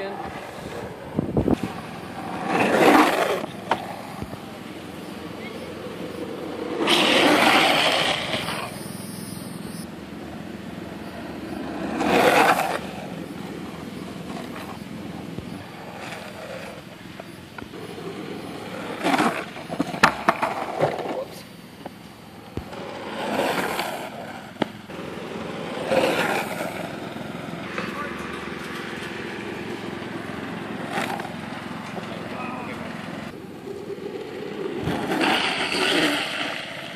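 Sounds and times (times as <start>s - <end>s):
longboard wheels rolling on asphalt: 0.0s - 36.9s
wheels scraping in slide: 0.0s - 36.9s.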